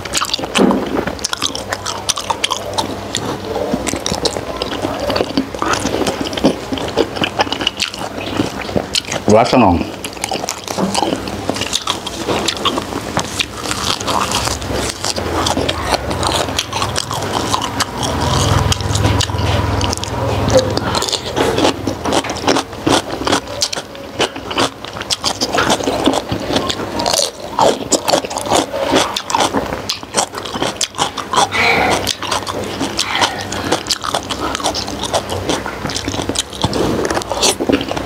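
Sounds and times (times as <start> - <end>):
chewing and smacking: 0.0 - 38.0.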